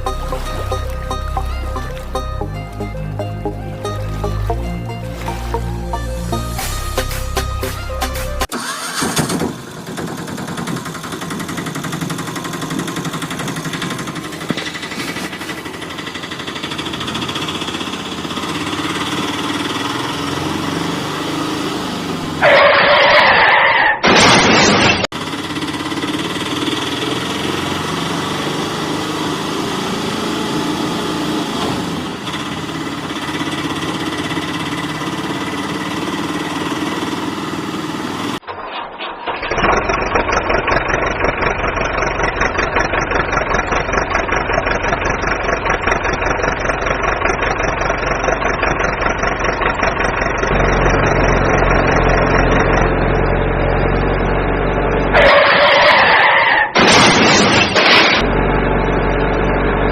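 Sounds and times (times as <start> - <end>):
engine chugging: 0.0 - 22.6, 25.1 - 55.9
engine humming: 0.0 - 23.5, 25.1 - 59.9.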